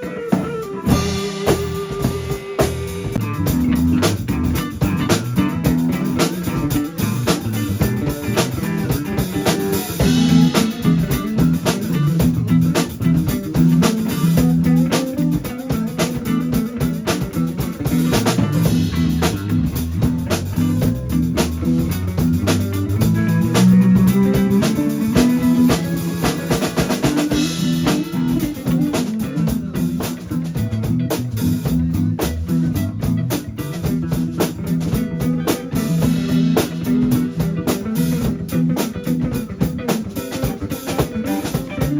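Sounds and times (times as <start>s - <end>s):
blues-rock band playing: 0.0s - 41.9s.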